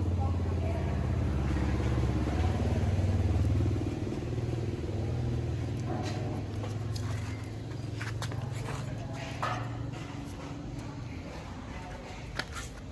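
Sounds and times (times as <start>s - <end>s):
engine running with low hum: 0.0s - 12.4s.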